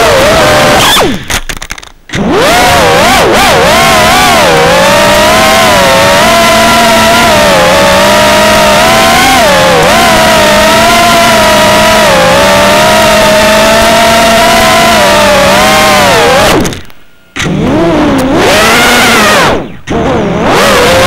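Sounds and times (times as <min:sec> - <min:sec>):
quadcopter motors whining: 0:00.0 - 0:01.2, 0:02.1 - 0:21.0.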